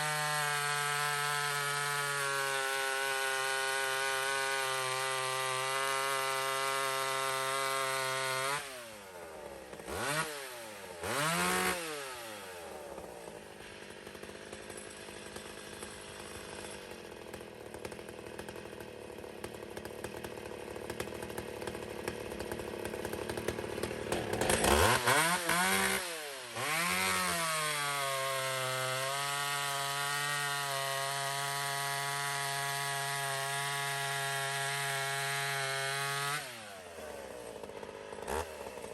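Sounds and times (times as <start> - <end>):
chainsaw cutting wood: 0.0 - 38.9
chainsaw running: 0.0 - 38.9.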